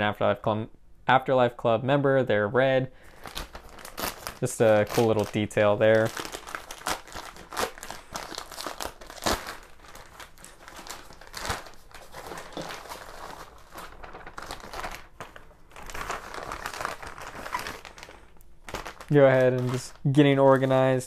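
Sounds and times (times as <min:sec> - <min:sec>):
plastic bag crinkling: 0:03.0 - 0:21.0.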